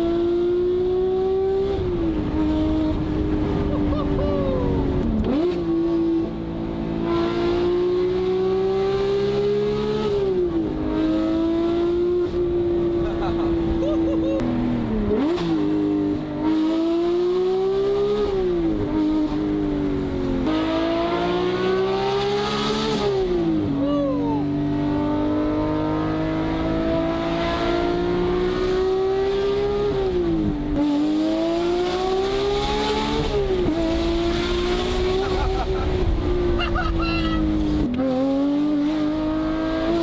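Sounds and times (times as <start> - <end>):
sports car engine revving through gears: 0.0 - 40.0.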